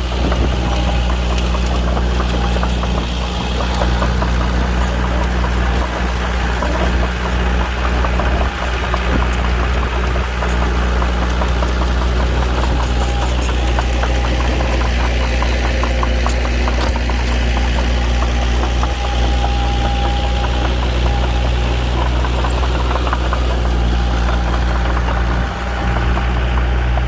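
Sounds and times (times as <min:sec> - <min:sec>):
bulldozer diesel engine running: 0:00.0 - 0:27.0.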